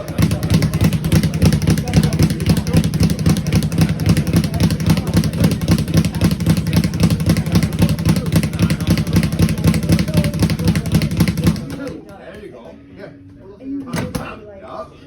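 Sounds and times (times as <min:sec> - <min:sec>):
speed bag being hit: 0:00.0 - 0:12.1.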